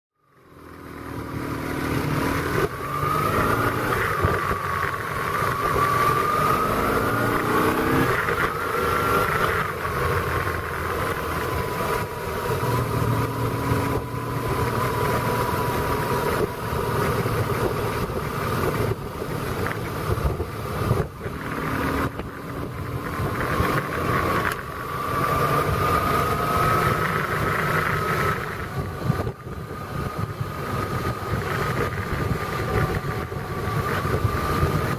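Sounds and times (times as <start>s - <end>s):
vehicle engine revving: 0.4s - 34.9s
steady rushing noise: 0.5s - 34.9s.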